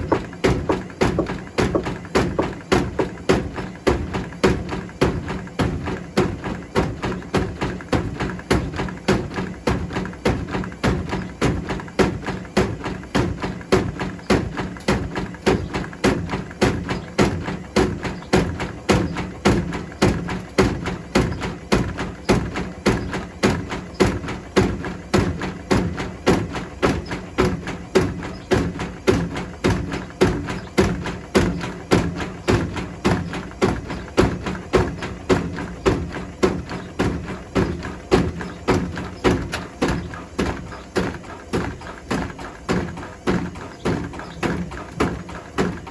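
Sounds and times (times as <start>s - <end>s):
bricks knocking in washing machine drum: 0.0s - 45.9s.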